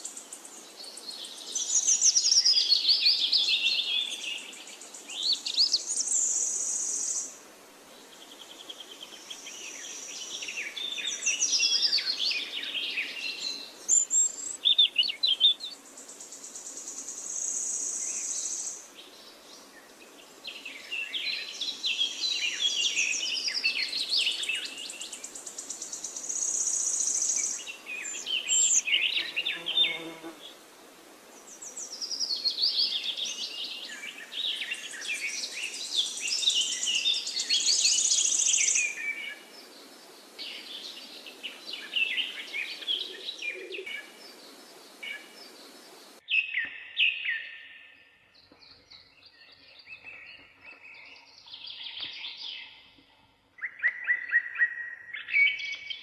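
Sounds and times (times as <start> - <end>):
birds chirping and trilling: 8.1 - 30.6, 31.4 - 56.0.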